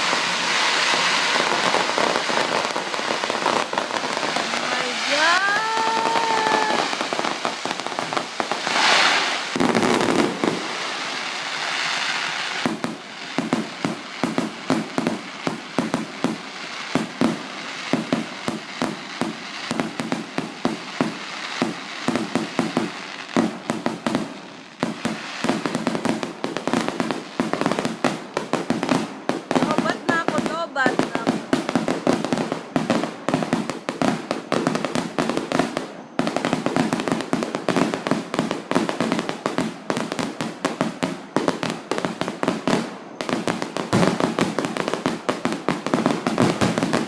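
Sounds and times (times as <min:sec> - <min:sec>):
firework bangs and crackles: 0:00.0 - 0:47.0
hissing firework burst: 0:00.0 - 0:47.0
whistling firework: 0:00.0 - 0:47.0.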